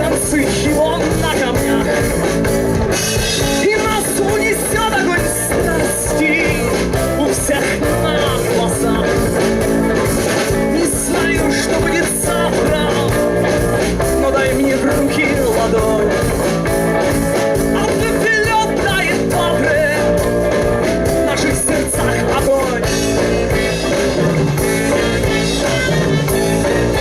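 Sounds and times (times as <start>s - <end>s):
instrumental rock music: 0.0s - 27.0s.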